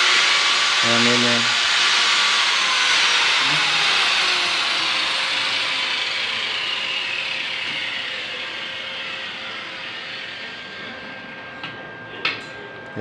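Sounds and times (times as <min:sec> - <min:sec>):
whirring machine with hiss: 0:00.0 - 0:13.0.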